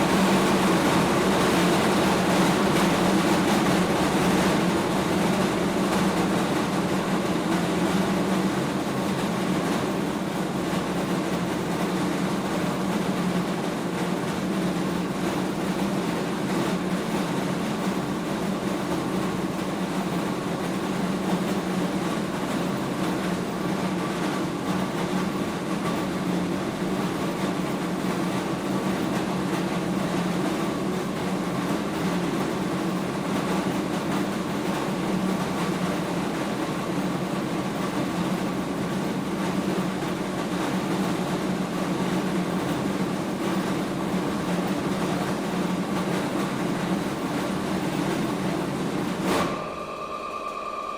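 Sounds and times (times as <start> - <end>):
mill machinery humming: 0.0 - 50.9.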